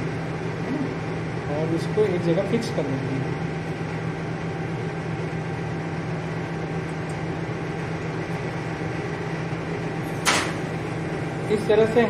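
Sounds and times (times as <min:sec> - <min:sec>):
electric machine humming: 0:00.0 - 0:12.0.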